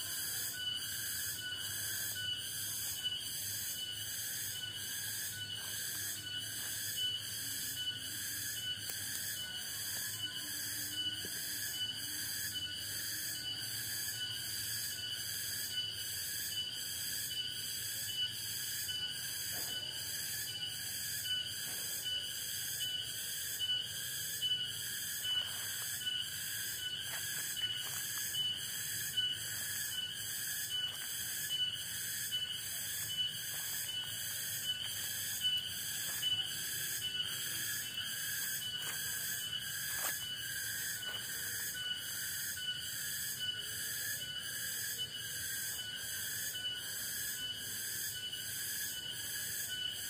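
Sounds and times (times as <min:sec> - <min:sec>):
insects buzzing and trilling: 0:00.0 - 0:50.0
pulsing high insect call: 0:00.0 - 0:50.0.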